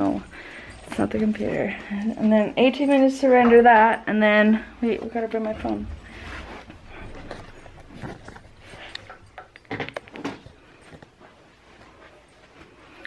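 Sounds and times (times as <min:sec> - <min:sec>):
rustling and handling noises: 0:00.0 - 0:13.0.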